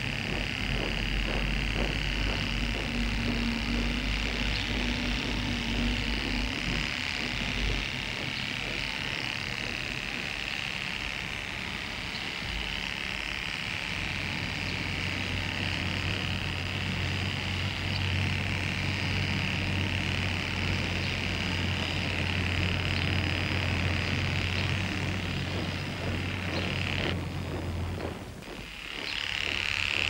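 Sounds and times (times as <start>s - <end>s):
electric hair clippers buzzing: 0.0s - 30.0s.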